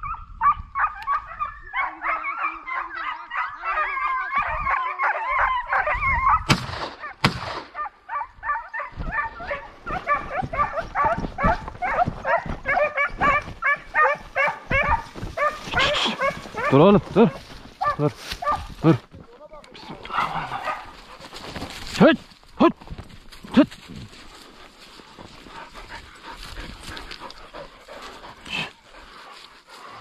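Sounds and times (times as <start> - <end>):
hounds baying and yelping: 0.0 - 19.2, 19.8 - 22.1, 23.1 - 30.0.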